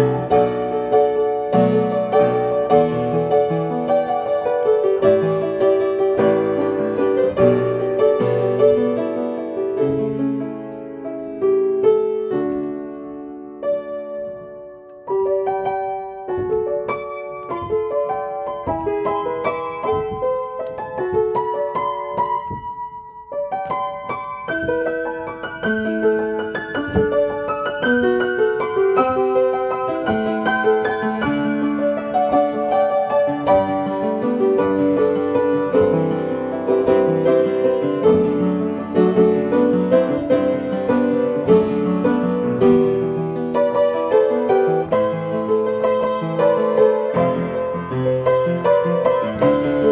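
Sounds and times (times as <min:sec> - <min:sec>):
slow piano melody: 0:00.0 - 0:49.9.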